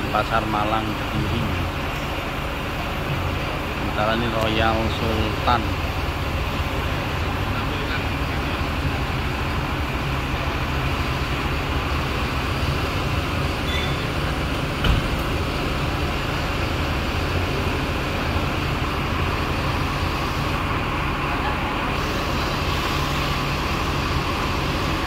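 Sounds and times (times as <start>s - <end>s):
diesel engines rumbling: 0.0s - 25.0s.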